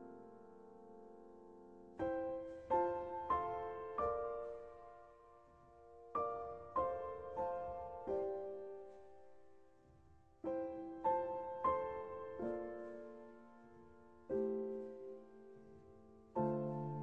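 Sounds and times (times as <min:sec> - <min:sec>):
slow soft piano music: 0:00.0 - 0:17.0.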